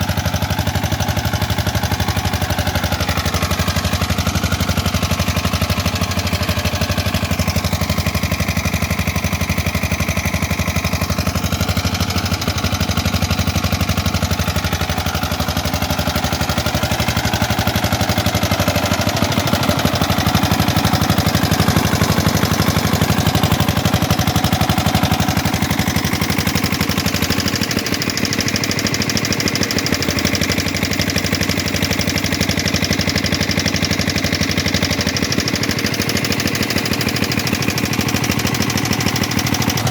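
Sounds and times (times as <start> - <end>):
diesel generator knocking: 0.0 - 39.9.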